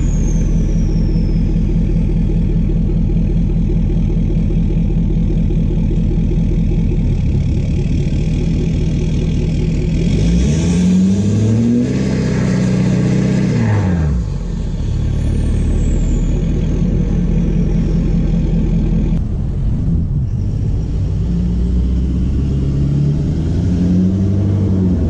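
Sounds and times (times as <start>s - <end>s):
diesel engine idling and revving: 0.0s - 25.0s.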